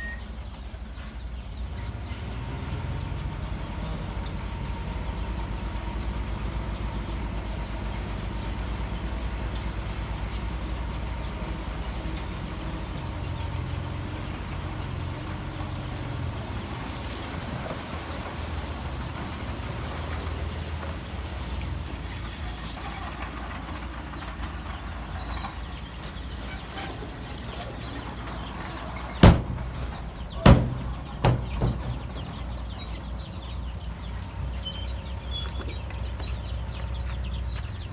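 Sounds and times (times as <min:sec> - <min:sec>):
diesel machinery rumbling: 0:00.0 - 0:37.9.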